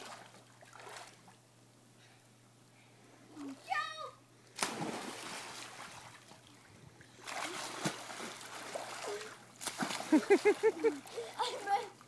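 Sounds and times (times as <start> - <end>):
pool water splashing: 0.0 - 1.8, 3.4 - 12.0.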